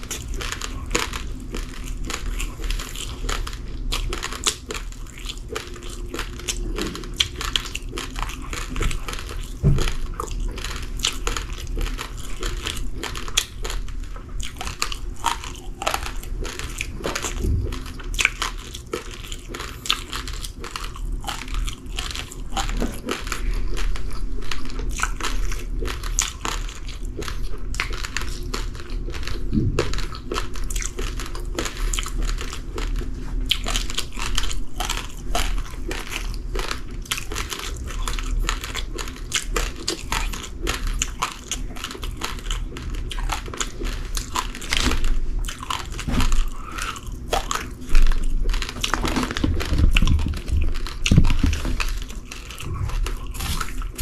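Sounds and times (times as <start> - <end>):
chewing raw rice grains: 0.0 - 54.0.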